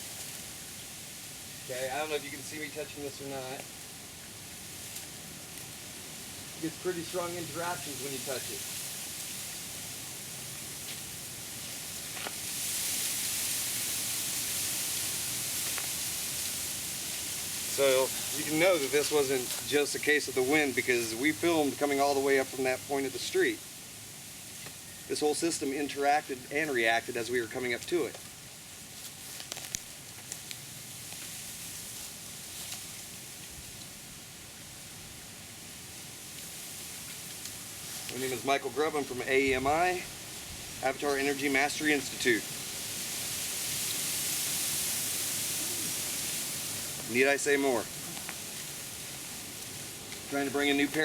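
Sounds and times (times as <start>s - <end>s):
bamboo leaves rustling in wind: 0.0s - 51.0s
outdoor background hiss: 0.0s - 51.0s.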